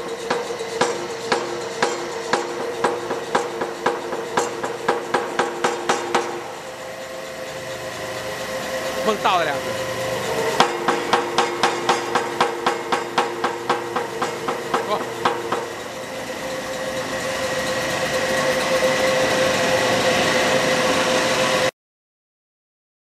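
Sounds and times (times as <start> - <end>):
air compressor running: 0.0 - 21.7
power hammer striking: 0.0 - 21.7.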